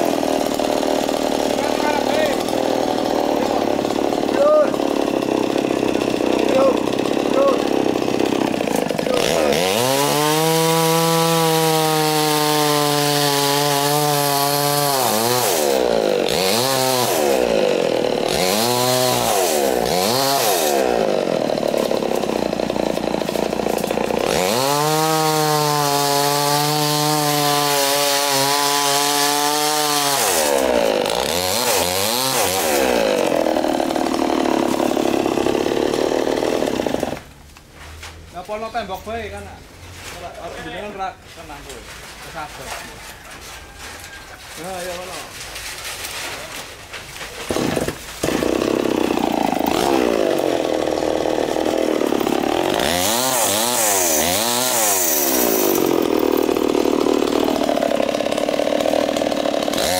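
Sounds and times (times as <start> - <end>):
chainsaw engine revving: 0.0 - 37.3, 47.4 - 59.9.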